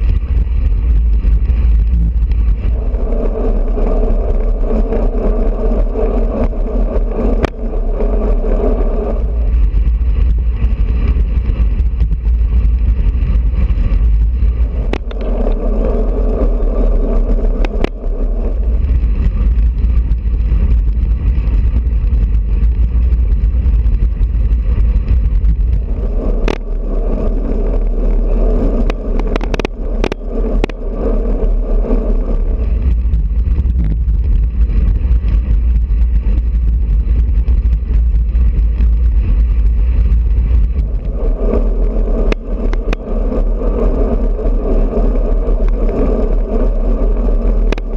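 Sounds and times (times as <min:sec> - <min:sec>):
pitched hum: 0:00.0 - 0:47.9
wind rumbling on microphone: 0:00.0 - 0:47.9.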